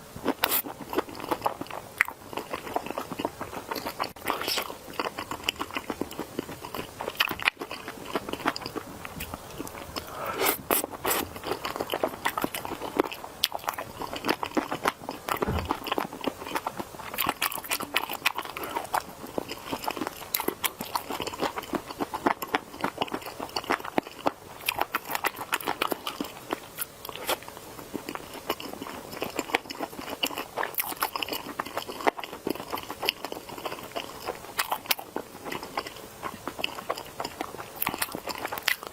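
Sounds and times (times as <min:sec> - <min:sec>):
person chewing crunchy food: 0:00.2 - 0:38.9.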